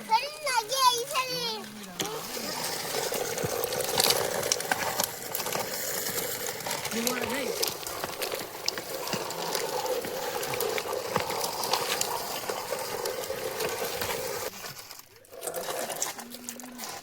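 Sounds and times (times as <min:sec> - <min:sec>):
gravel chips rattling and pouring: 0:00.3 - 0:17.0.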